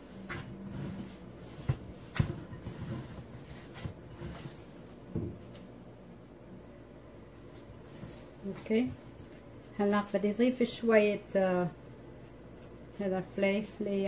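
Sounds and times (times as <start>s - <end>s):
dough squishing being kneaded: 0.0s - 5.6s, 7.3s - 14.0s.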